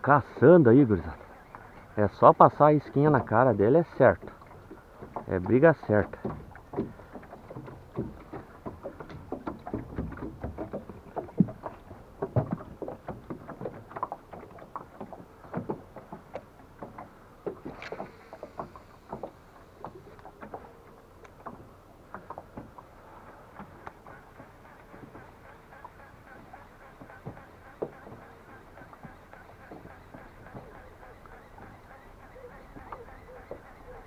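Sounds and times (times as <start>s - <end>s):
waves slapping a boat hull: 0.0s - 34.0s.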